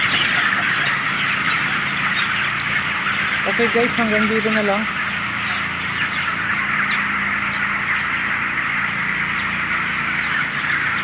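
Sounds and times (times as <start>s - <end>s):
chickens cheeping: 0.0s - 11.0s
ventilation fans humming: 0.0s - 11.0s.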